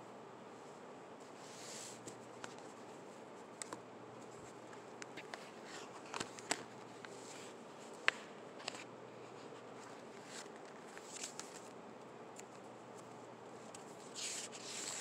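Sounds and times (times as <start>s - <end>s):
steady room hiss: 0.0s - 15.0s.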